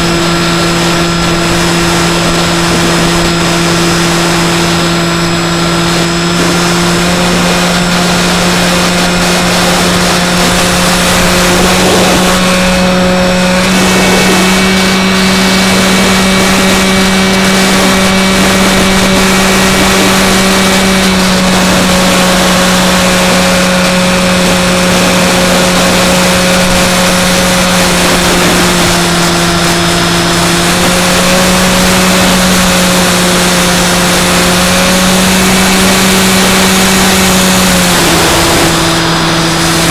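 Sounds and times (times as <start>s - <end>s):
electric motor and propeller drone: 0.0s - 39.9s
rushing wind: 0.0s - 39.9s.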